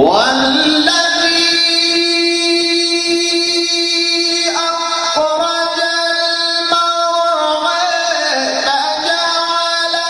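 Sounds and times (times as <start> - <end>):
man chanting recitation: 0.0 - 10.0.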